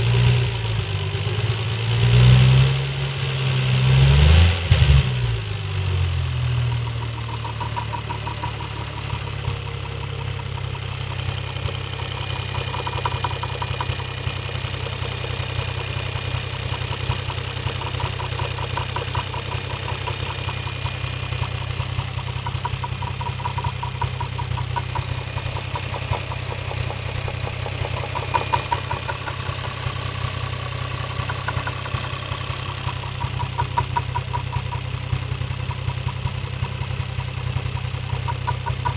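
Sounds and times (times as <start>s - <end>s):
car engine idling: 4.6s - 38.9s
fast light engine knocking: 6.5s - 38.9s.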